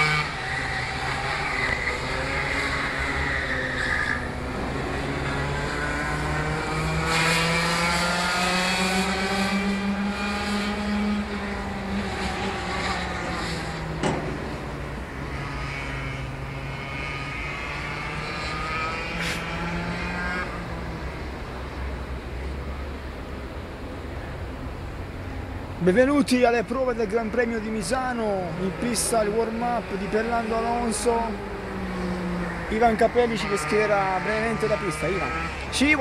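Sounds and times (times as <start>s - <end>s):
kart engine accelerating: 0.0s - 22.6s, 27.9s - 36.0s.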